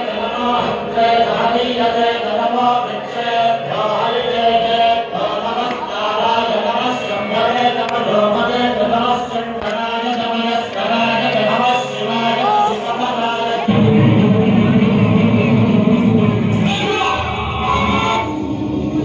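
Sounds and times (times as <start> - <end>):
devotional chanting over sound system: 0.0 - 19.0.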